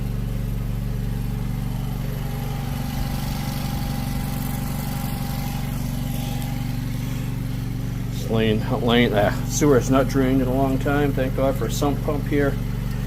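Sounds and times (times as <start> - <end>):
hydro jetter engine running: 0.0 - 13.0.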